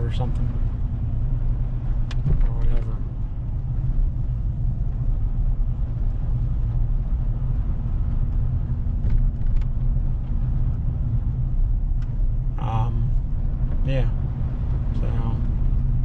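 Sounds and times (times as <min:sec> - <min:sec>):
road noise: 0:00.0 - 0:16.0
truck engine rumble from inside: 0:00.0 - 0:16.0.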